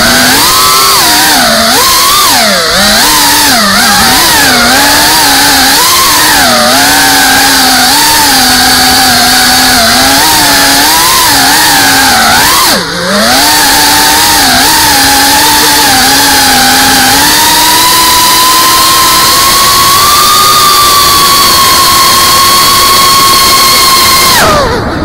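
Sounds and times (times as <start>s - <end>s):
quadcopter motors buzzing: 0.0s - 25.0s.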